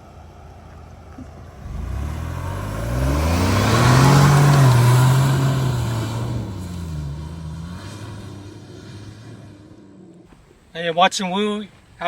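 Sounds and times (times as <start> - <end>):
car engine accelerating: 0.0 - 10.4
tyres on dirt: 0.0 - 12.0.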